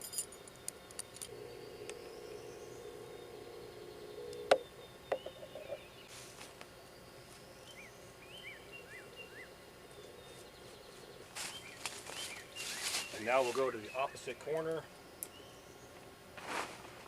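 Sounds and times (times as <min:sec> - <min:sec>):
small birds chirping: 0:00.0 - 0:16.2.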